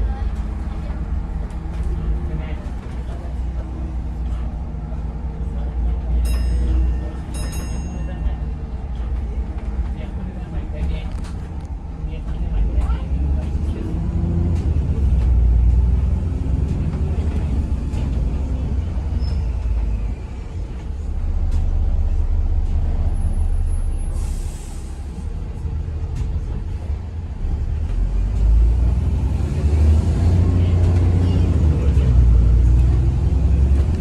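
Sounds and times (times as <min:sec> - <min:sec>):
bus diesel engine rumbling: 0:00.0 - 0:34.0.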